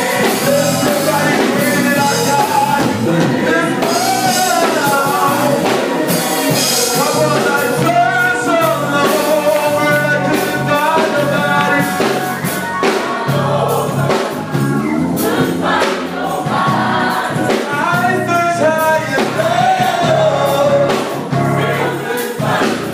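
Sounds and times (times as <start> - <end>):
bass line: 0.0 - 22.9
group singing gospel: 0.0 - 22.9
percussion: 0.0 - 22.9.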